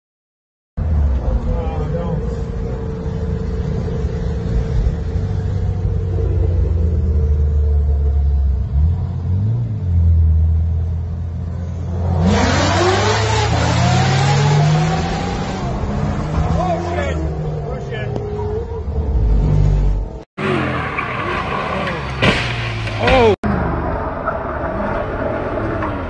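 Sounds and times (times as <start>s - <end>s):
cars at highway speed: 0.8s - 26.0s
sports car engines revving: 0.9s - 23.1s.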